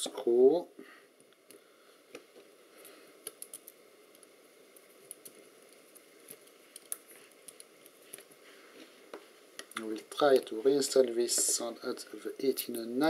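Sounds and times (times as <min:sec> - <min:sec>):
small clicks and handling noises: 0:01.2 - 0:11.7.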